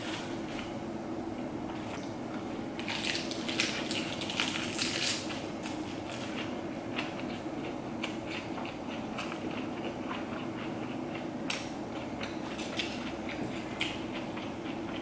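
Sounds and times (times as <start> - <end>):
crunching of lettuce being chewed: 2.8 - 15.0.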